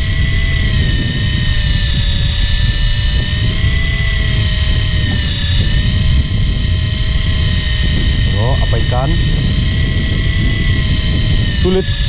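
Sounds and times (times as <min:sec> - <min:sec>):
boat engine whining and rumbling: 0:00.0 - 0:12.0.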